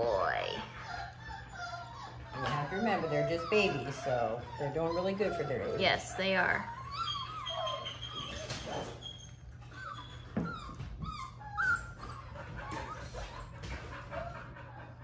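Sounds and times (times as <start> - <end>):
puppies whining: 0.0 - 15.0.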